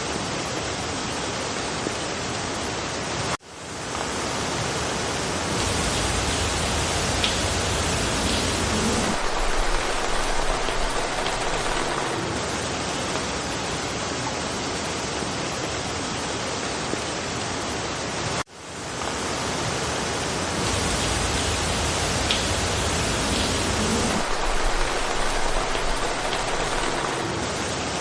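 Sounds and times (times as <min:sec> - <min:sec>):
rain falling through foliage: 0:00.0 - 0:28.0.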